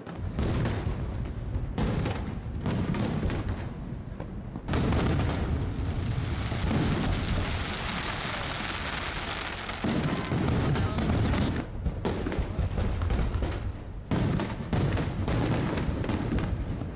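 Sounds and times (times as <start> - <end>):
firework bursts: 0.0 - 16.9
fireworks crackling hiss: 0.0 - 16.9.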